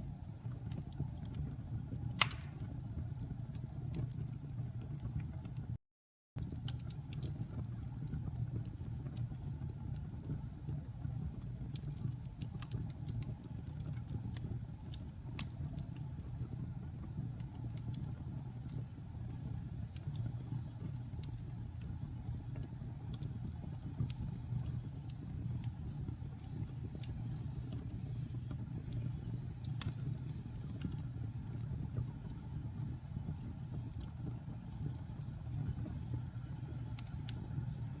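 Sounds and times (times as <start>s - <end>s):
fire crackles and pops: 0.0s - 5.8s, 6.4s - 38.0s
low rumble of flame: 0.0s - 5.8s, 6.4s - 38.0s.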